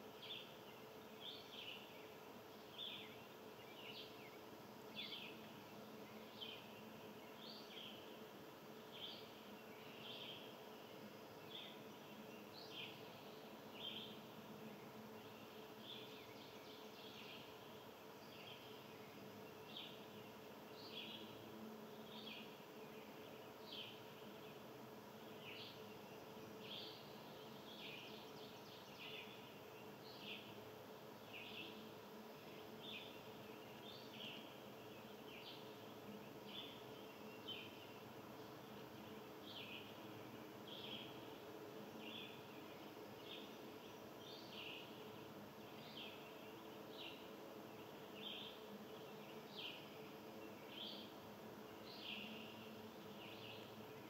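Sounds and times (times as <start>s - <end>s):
faint steady hum: 0.0s - 54.0s
small birds chirping: 0.0s - 54.0s.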